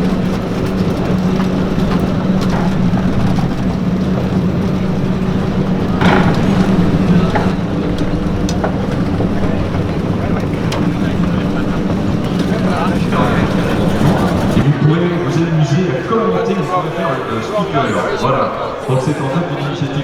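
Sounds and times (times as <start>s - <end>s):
busy background noise: 0.0s - 20.0s
steady engine hum: 0.0s - 20.0s.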